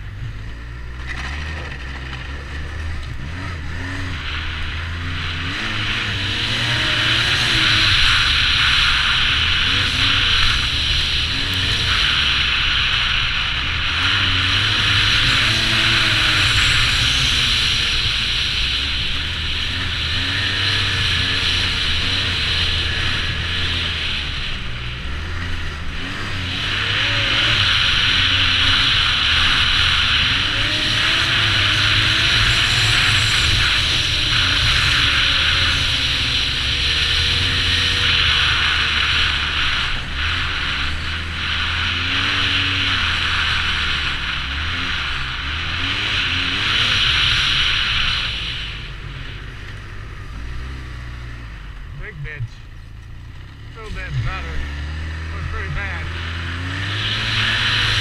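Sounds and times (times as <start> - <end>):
snowmobile engine revving: 0.0 - 58.0
steady rushing noise: 0.0 - 58.0.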